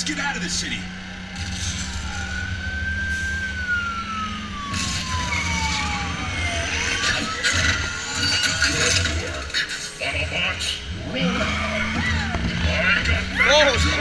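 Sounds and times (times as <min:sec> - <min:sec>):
bursts of noise: 0:00.0 - 0:14.0.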